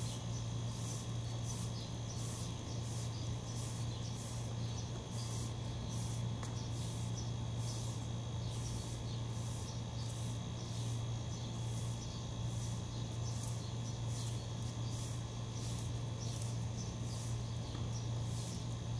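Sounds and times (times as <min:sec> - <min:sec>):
broom sweeping paved floor: 0:00.0 - 0:18.9.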